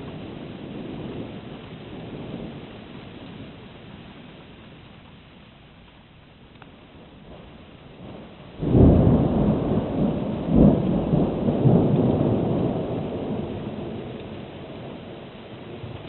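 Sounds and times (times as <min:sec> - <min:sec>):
thunder rumbling: 0:00.0 - 0:05.3, 0:06.7 - 0:16.0.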